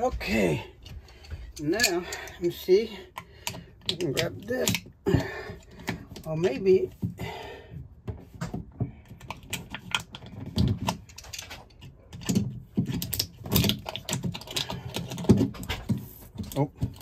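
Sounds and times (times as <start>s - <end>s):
pliers clicking and knocking: 0.8s - 6.6s, 9.0s - 17.0s.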